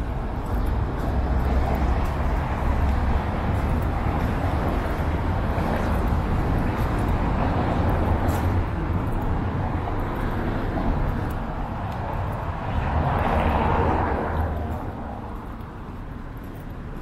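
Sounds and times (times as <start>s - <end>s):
street traffic engine and tyre noise: 0.0s - 17.0s.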